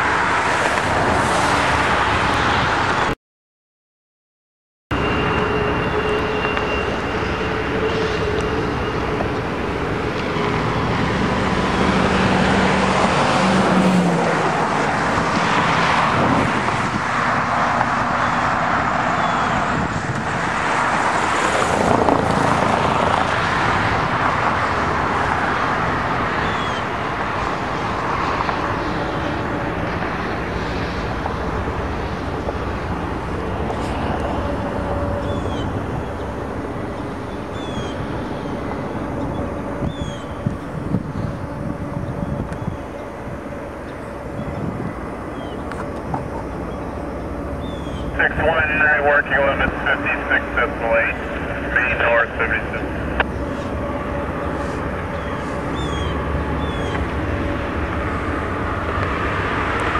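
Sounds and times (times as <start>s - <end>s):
freight train wheels rumbling: 4.9s - 59.9s.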